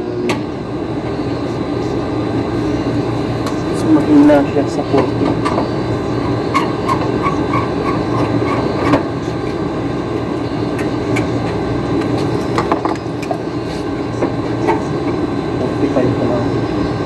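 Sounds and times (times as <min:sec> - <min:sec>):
air conditioner compressor humming: 0:00.0 - 0:17.0.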